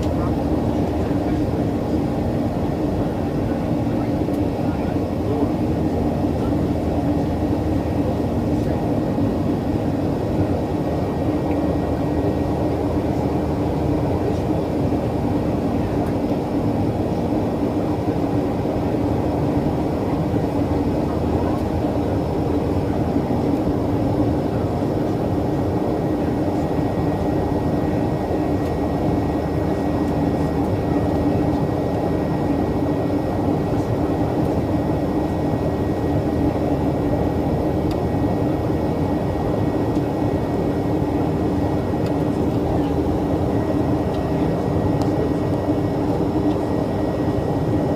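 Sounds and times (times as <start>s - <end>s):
jet engine and airflow roar: 0.0s - 47.9s
steady low hum: 0.0s - 47.9s.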